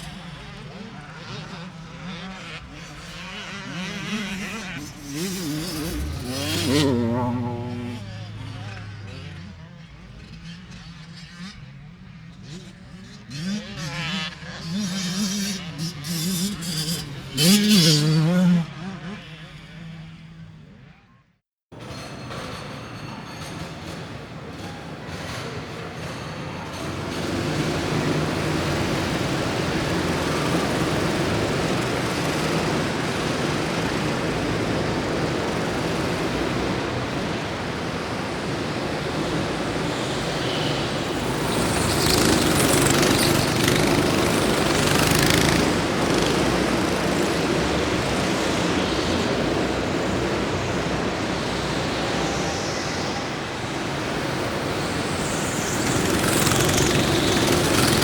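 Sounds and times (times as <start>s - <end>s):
racing engines droning: 0.0s - 58.0s.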